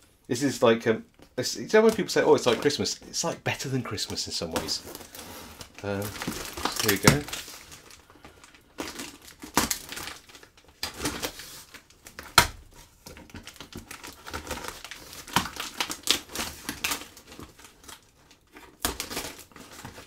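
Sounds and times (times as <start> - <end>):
tape and cardboard crinkling: 1.0 - 20.0.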